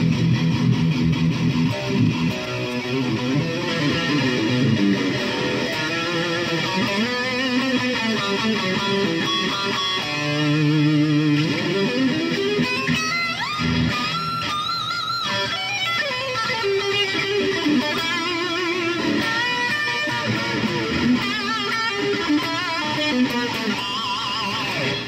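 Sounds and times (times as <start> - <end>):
distorted electric guitar lead: 0.0 - 25.0.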